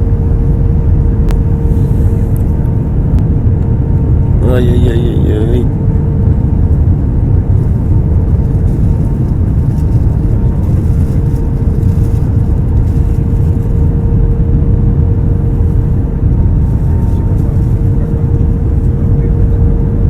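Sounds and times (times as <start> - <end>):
airplane cabin low rumble: 0.0 - 20.0
engine hum: 0.0 - 20.0.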